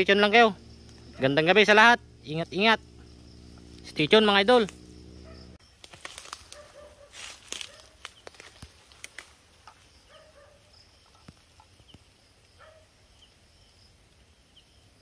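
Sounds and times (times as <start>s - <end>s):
high insect chirps: 0.0s - 15.0s.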